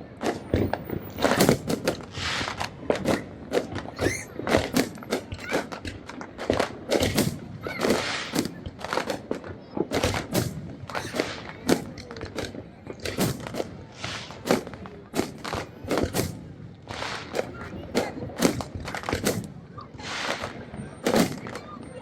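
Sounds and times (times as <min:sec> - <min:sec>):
fireworks exploding: 0:00.1 - 0:22.0.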